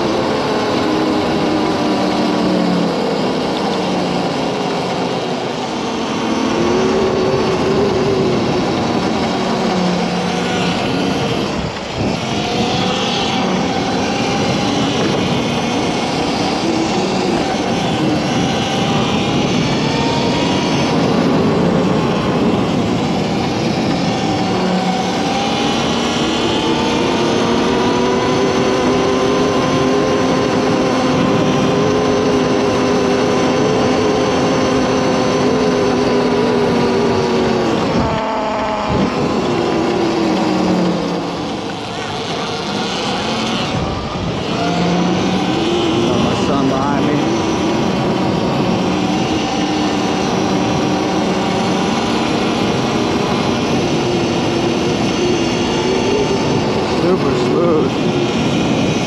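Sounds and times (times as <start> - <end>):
electric motor whining: 0.0 - 59.0
riding noise rush: 0.0 - 59.0.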